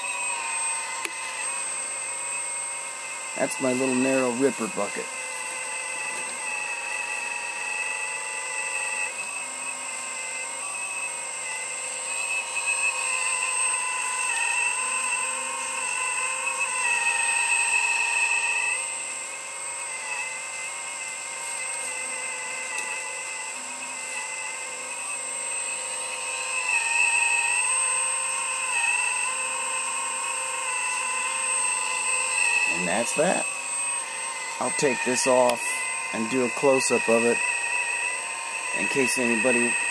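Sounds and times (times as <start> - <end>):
hydraulic pump and motor whining: 0.0 - 39.9.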